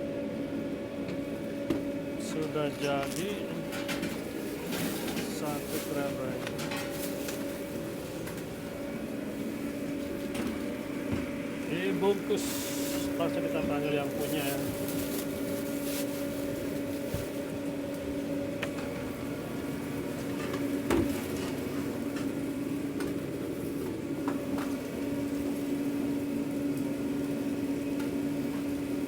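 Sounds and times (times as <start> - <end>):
kitchen equipment humming: 0.0 - 29.0.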